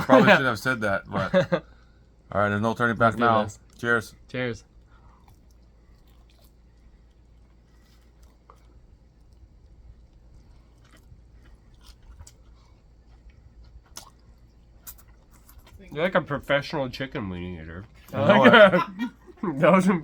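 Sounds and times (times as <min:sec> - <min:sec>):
people chewing: 0:00.0 - 0:02.1, 0:04.6 - 0:20.0.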